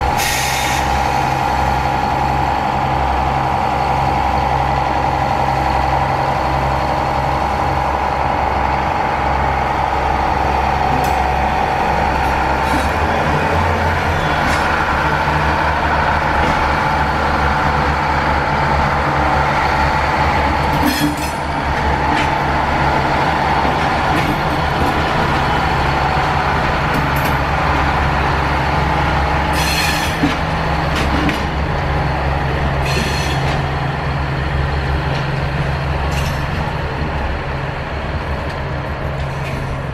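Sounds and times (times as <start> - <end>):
railcar engine drone and whine: 0.0 - 39.9.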